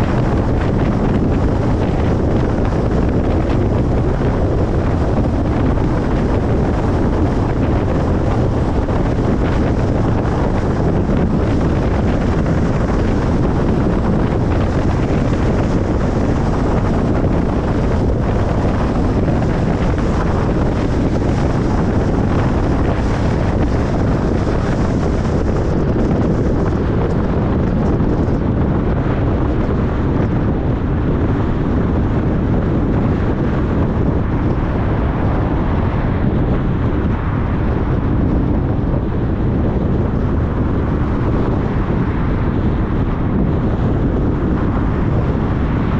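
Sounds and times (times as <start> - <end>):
car tyre and wind road noise: 0.0 - 45.9.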